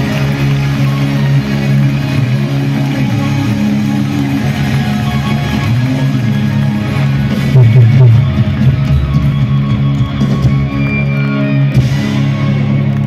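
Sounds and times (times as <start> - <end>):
electric guitar: 0.0 - 13.0
live rock band: 0.0 - 13.0.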